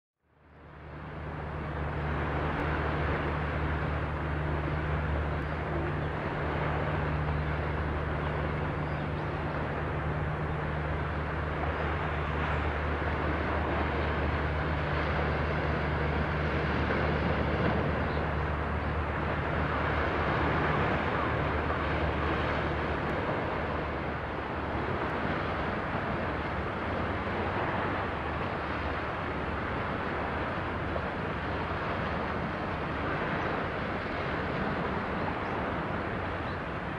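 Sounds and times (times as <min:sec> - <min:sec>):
low engine hum: 0:00.2 - 0:36.9.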